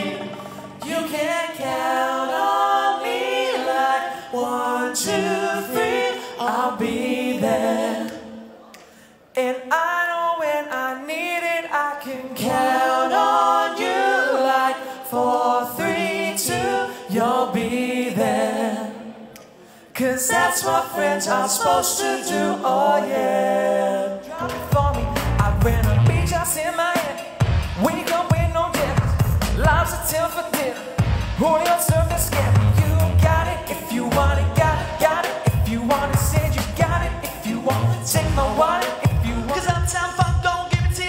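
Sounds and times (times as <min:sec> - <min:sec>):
men singing a cappella harmony: 0:00.0 - 0:08.7, 0:09.3 - 0:41.0.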